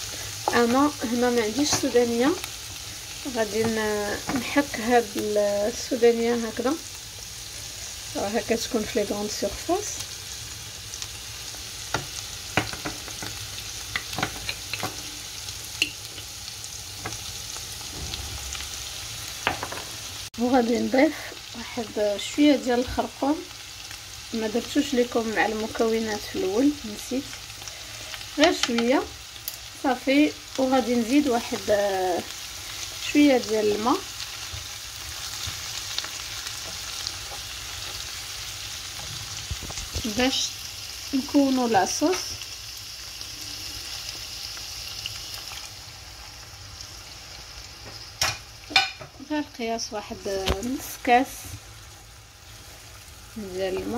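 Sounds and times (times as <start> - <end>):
liver and onions sizzling: 0.0 - 53.9.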